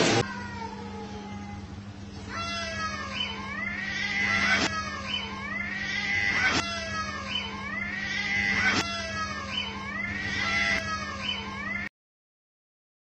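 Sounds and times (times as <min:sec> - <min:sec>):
cats yowling: 0:00.2 - 0:11.9.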